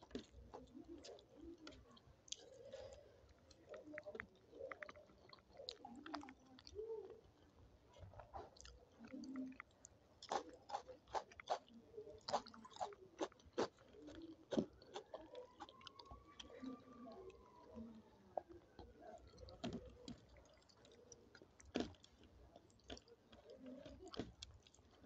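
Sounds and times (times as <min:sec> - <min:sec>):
chewing and biting food: 0:00.0 - 0:07.3, 0:08.0 - 0:25.0.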